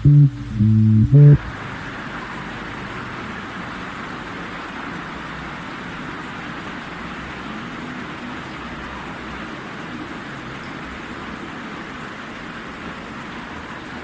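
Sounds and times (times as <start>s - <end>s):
steady rainfall: 1.4s - 14.0s.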